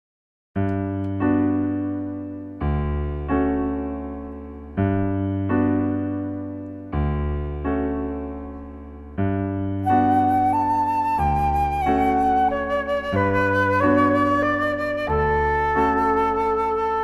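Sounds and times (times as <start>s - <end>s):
slow electric piano chords: 0.6s - 17.0s.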